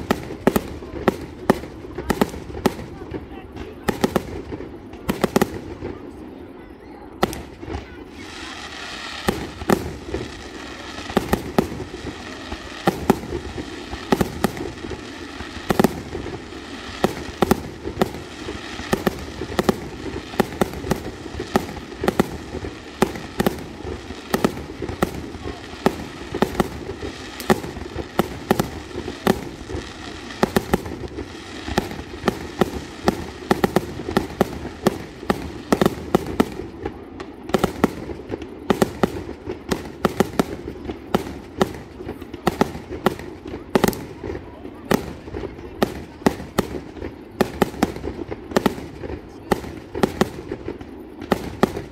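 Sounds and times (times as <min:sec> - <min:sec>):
steady background noise: 0:00.0 - 0:51.9.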